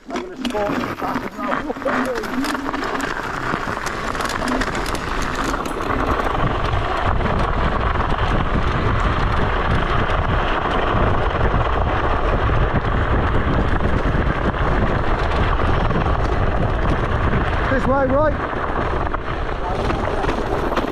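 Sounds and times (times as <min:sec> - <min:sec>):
scooter ride rumble: 0:00.0 - 0:20.9
wind rushing over microphone: 0:00.0 - 0:20.9.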